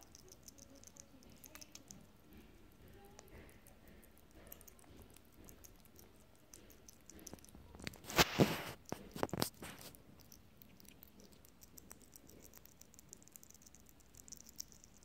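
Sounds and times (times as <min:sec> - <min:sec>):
hedgehog chewing and lapping: 0:00.0 - 0:15.0.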